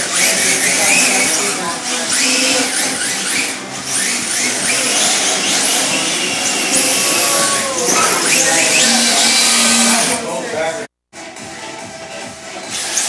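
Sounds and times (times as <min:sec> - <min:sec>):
electric motors whining: 0:00.0 - 0:10.7, 0:12.6 - 0:13.0.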